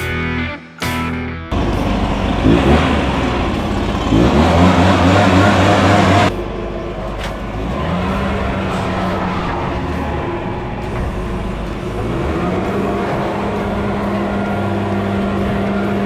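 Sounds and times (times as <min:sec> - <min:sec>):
leaf blower running: 0:01.5 - 0:16.0.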